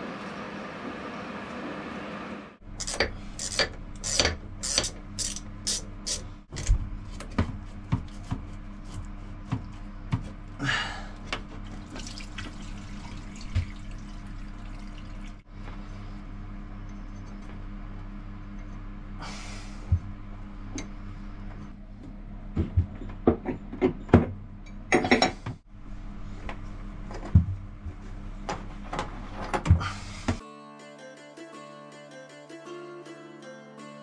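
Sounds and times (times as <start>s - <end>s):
steady low hum: 0.0s - 30.4s.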